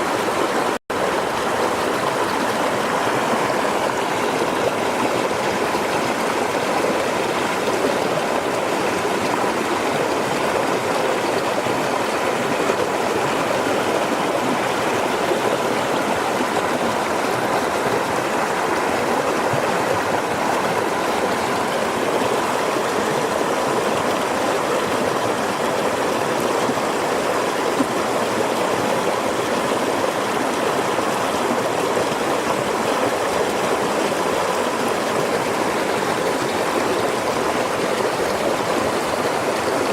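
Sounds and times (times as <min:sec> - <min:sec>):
flowing river rushing: 0:00.0 - 0:39.9.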